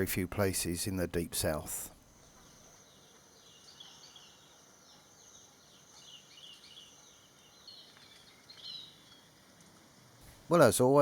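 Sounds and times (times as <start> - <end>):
faint bird chirping: 1.4 - 10.5.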